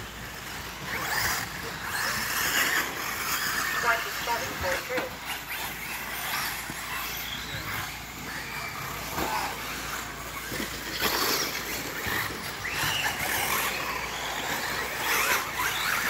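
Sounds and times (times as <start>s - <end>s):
rc car motors whining: 0.0s - 16.0s
tyres on loose dirt: 0.0s - 16.0s.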